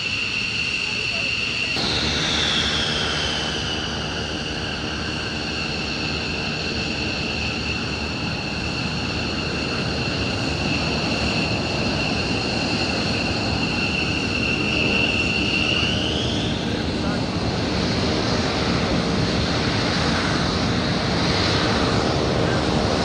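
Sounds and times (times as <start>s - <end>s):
jet engine rush: 0.0s - 23.0s
jet engine whine: 0.0s - 23.0s.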